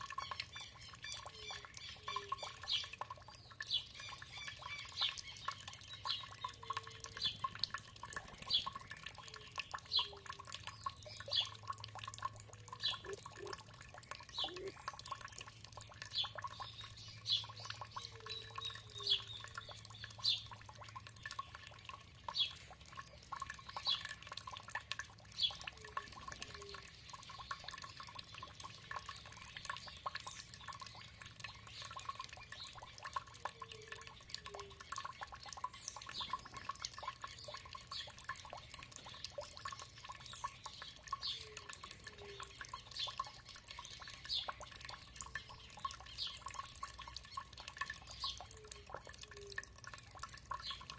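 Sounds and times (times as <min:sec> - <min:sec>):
birds chirping: 0:00.0 - 0:24.6, 0:25.3 - 0:50.9
water trickling and dripping: 0:00.0 - 0:50.9.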